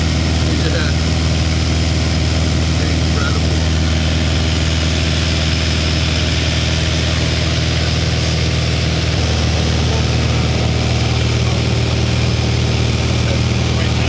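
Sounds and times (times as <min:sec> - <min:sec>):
light plane engine droning: 0:00.0 - 0:14.0.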